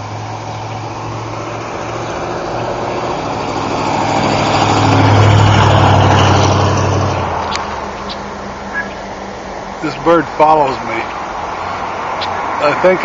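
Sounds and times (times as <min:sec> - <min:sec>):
vehicle driving past: 0:00.0 - 0:13.0.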